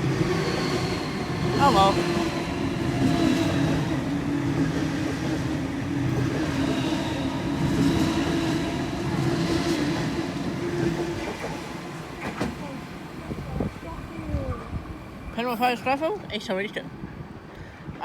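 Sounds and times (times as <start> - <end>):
train wheels rumbling on rail: 0.0 - 17.5.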